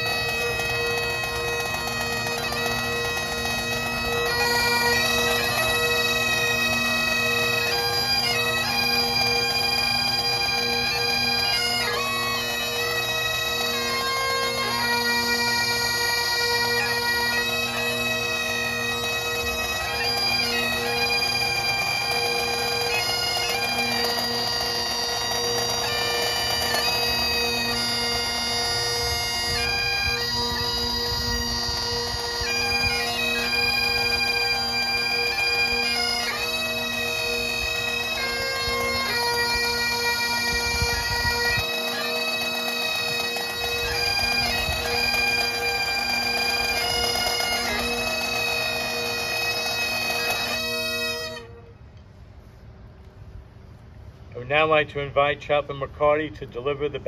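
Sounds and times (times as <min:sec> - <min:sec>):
bagpipes playing slow tune: 0:00.0 - 0:52.9.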